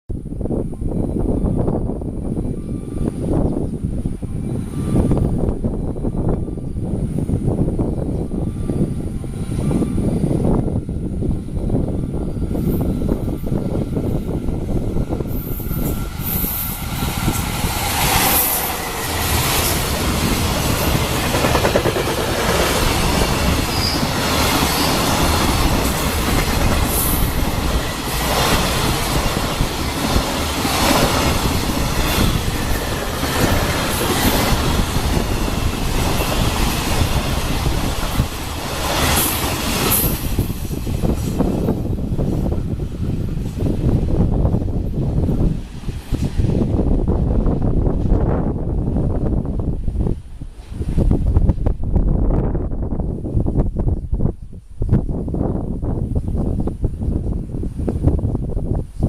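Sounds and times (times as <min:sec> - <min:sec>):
freight train rumbling past: 0:00.1 - 0:59.0.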